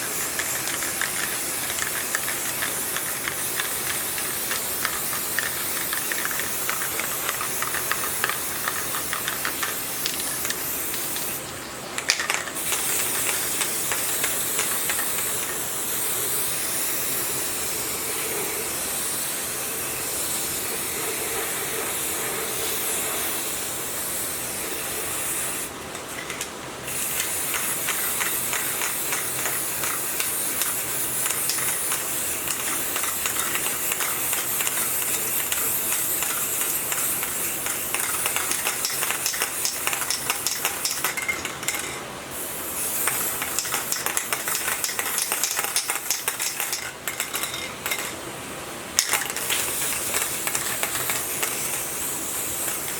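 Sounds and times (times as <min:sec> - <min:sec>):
high-pressure jet spraying hiss: 0:00.0 - 0:52.9.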